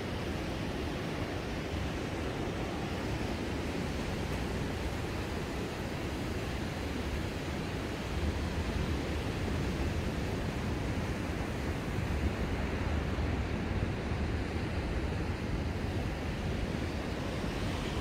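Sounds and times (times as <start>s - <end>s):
sea waves breaking on a beach: 0.0s - 18.0s
wind rumble on microphone: 0.0s - 18.0s.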